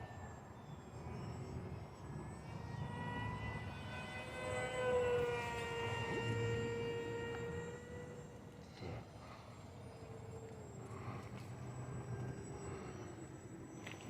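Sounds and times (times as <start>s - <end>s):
rc plane motor whine: 0.0s - 14.0s.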